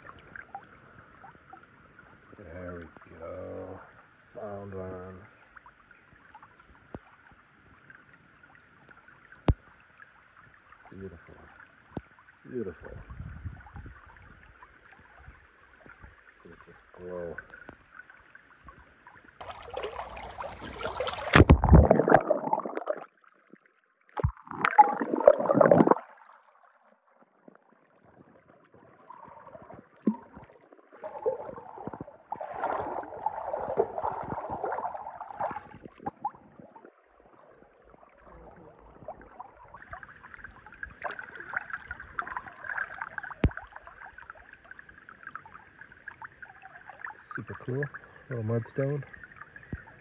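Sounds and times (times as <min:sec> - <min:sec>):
water splashing and gurgling: 0:08.6 - 0:50.0.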